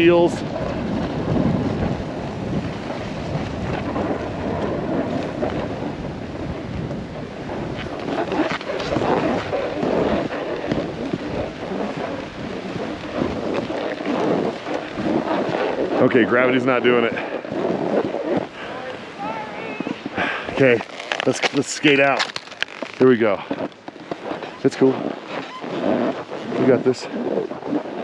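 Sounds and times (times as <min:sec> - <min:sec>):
snowboard sliding over snow: 0:00.0 - 0:28.0
wind on microphone: 0:00.0 - 0:28.0.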